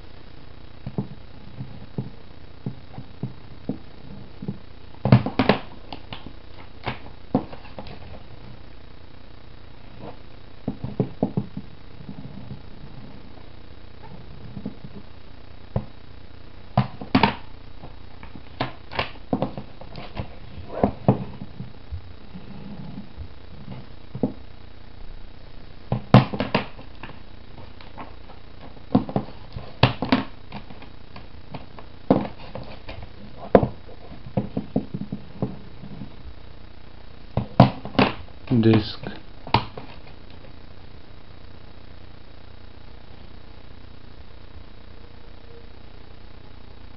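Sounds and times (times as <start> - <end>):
faint steady hiss: 0.0 - 46.9.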